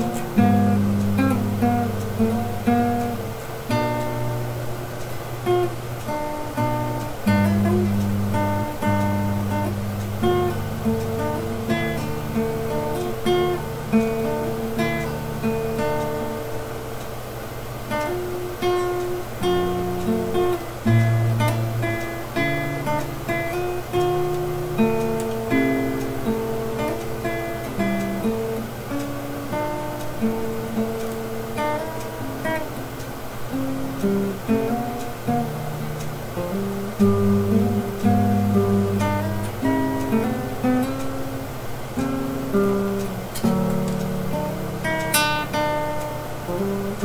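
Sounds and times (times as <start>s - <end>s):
acoustic guitar picking: 0.0s - 47.0s.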